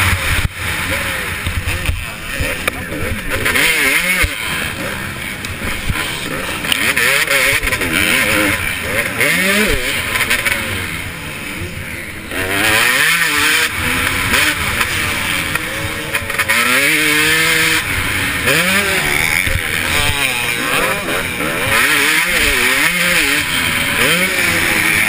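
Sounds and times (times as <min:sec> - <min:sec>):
motocross engine revving: 0:00.0 - 0:25.0.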